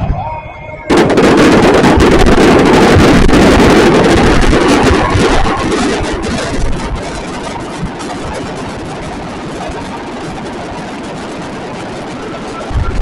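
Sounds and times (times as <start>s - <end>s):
loud jet aircraft noise: 0.0s - 13.0s.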